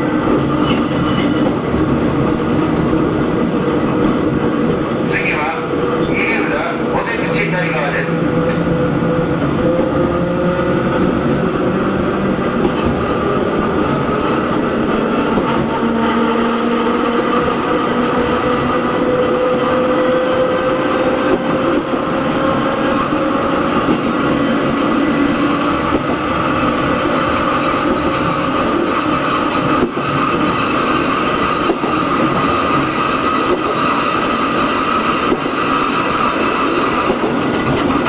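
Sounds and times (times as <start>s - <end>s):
train wheel and rail noise: 0.0s - 38.0s.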